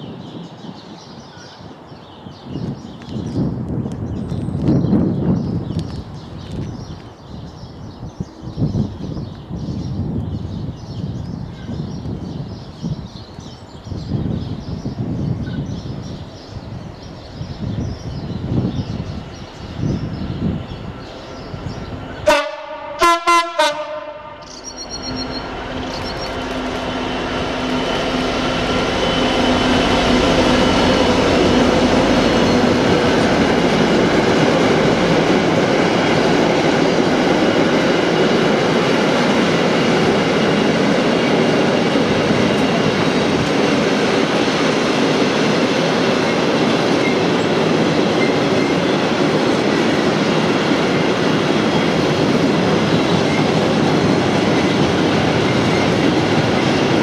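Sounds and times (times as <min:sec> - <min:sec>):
diesel locomotive engine drone: 0:02.6 - 0:57.0.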